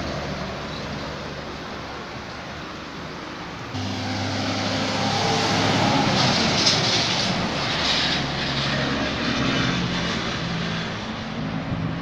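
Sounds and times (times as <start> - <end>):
diesel truck engine drone: 0.0 - 12.0
distant traffic: 0.0 - 12.0
tyre and road noise: 0.0 - 12.0.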